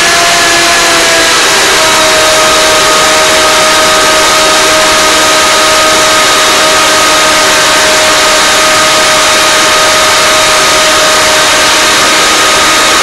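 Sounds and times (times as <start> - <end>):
blender motor running: 0.0 - 13.0.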